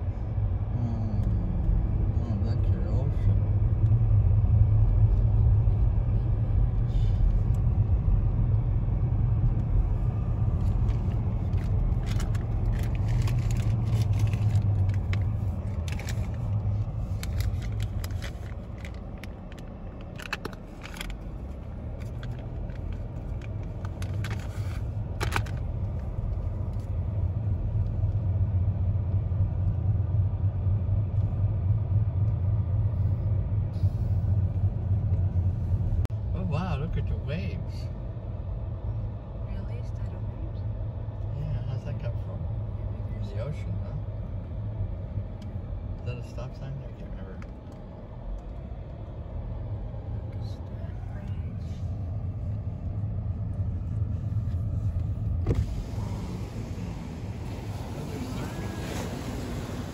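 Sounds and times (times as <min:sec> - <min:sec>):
car cabin road and engine rumble: 0:00.0 - 0:59.9.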